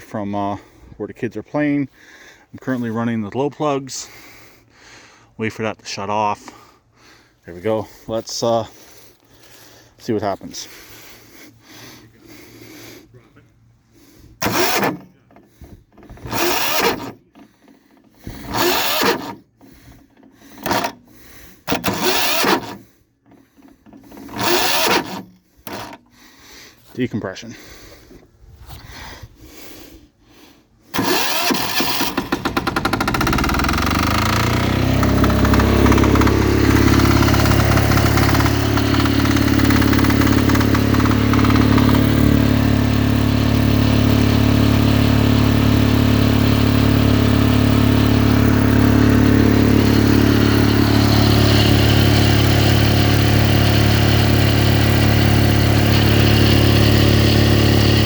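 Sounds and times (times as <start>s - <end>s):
diesel generator starting and running: 0.0s - 58.0s.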